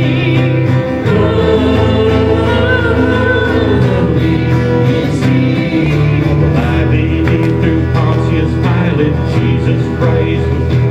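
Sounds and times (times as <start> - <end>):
person singing: 0.0 - 10.9
worship band with guitar: 0.0 - 10.9.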